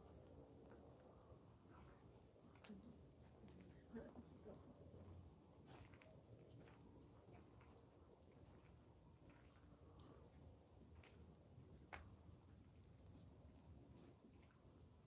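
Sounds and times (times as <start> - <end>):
faint crickets chirping: 0.0 - 15.0.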